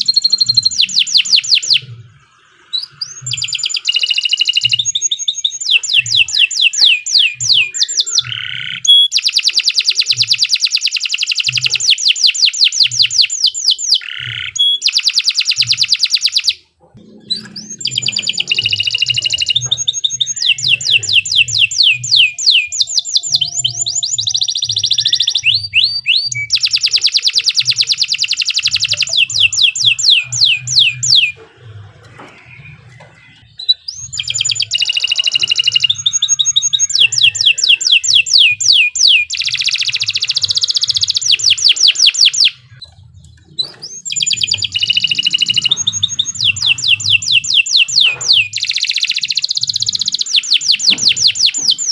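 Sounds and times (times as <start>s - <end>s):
canary singing rolling trills: 0.0s - 51.9s.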